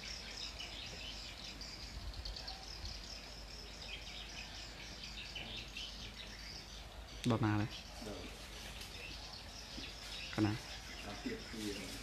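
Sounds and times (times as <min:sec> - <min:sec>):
high chirping calls: 0:00.0 - 0:12.0.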